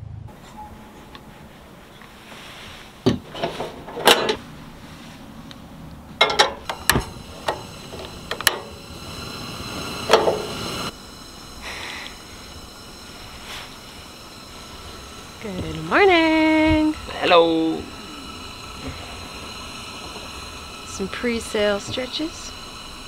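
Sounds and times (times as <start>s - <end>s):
faint steady hiss: 0.3s - 23.0s.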